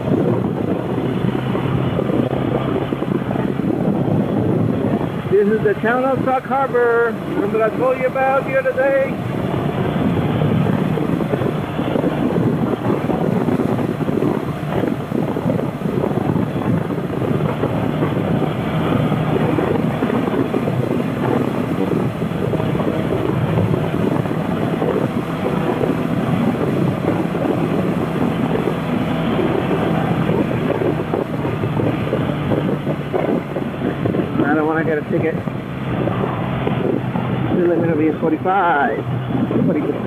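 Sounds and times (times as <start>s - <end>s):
wind noise on microphone: 0.0s - 40.0s.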